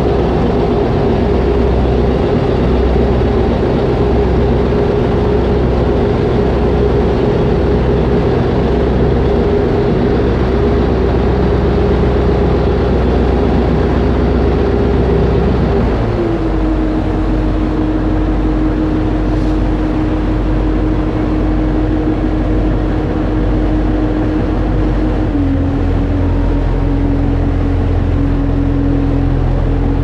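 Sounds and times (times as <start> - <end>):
ferry engine rumbling: 0.0 - 30.0.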